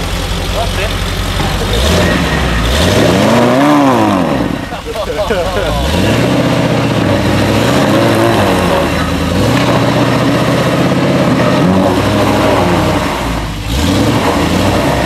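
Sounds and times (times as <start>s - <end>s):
engine revving: 0.0s - 15.0s
wheels churning in mud: 0.0s - 15.0s.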